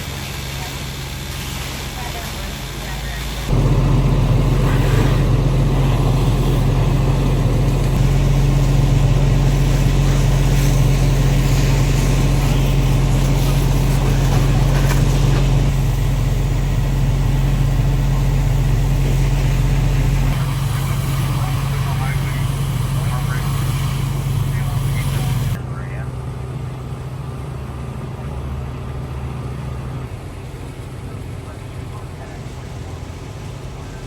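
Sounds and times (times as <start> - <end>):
large vehicle engine humming: 0.0 - 34.0.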